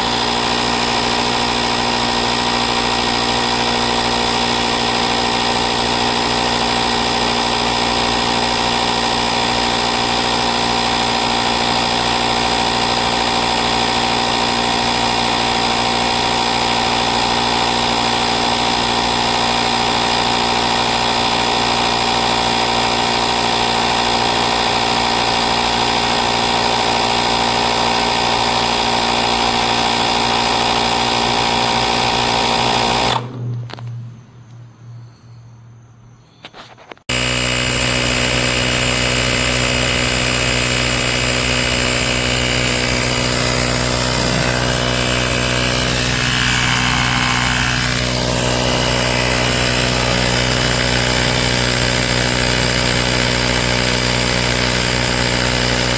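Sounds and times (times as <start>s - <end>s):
portable air compressor buzzing: 0.0s - 33.9s, 36.4s - 55.9s.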